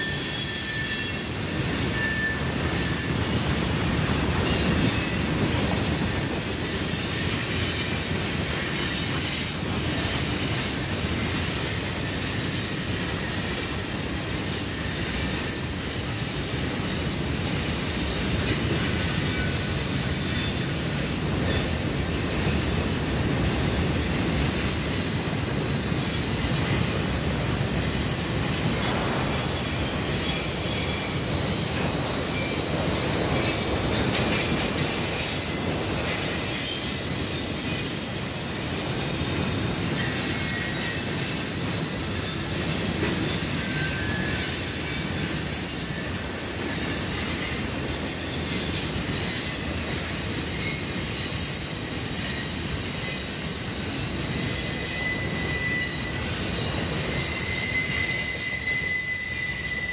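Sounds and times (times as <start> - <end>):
high-pitched wheel squeal: 0.0 - 33.6, 34.3 - 59.9
train wheels rumbling on rail: 0.0 - 59.9.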